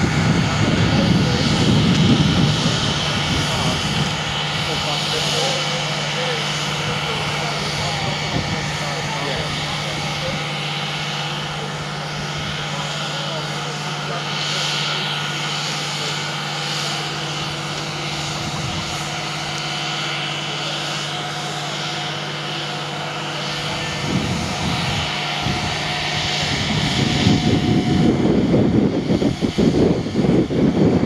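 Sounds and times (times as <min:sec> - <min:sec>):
distant diesel engine drone: 0:00.0 - 0:31.0
rough uneven rumble: 0:00.0 - 0:31.0.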